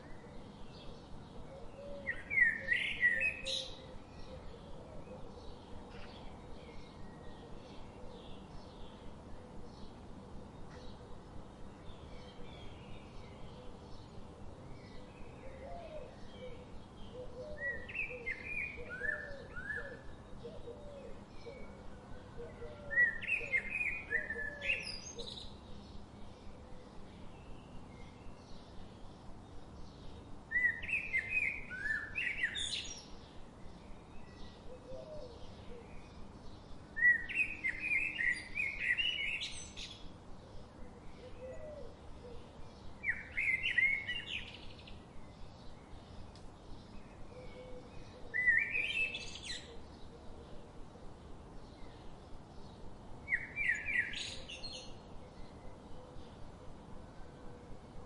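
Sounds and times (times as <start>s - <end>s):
songbird singing: 0.0s - 58.0s
steady outdoor hiss: 0.0s - 58.0s.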